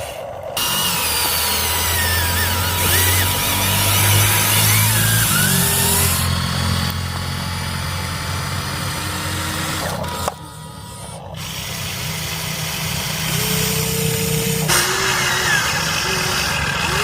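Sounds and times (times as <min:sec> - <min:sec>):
small electric motors buzzing: 0:00.0 - 0:17.0.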